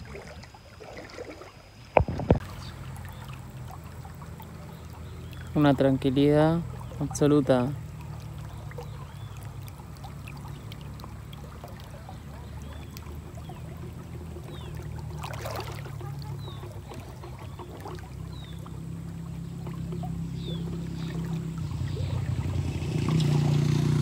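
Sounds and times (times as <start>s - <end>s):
shallow river water running: 0.0s - 24.0s.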